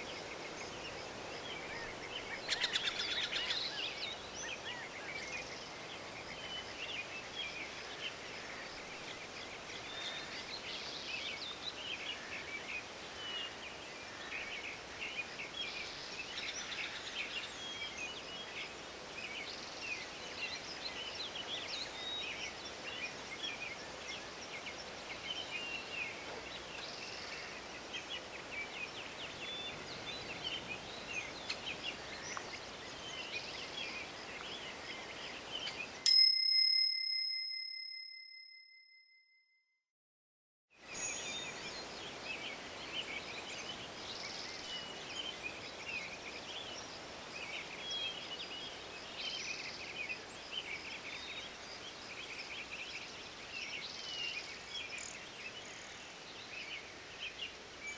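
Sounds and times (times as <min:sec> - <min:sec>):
songbirds chirping and trilling: 0:00.0 - 0:36.1, 0:40.9 - 0:57.9.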